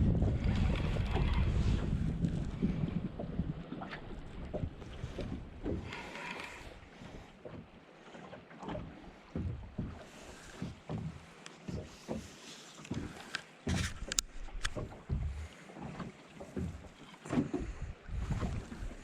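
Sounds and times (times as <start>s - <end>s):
faint wind: 0.0s - 19.0s
knocks and thumps in a boat: 0.0s - 19.0s
water noise: 0.0s - 19.0s.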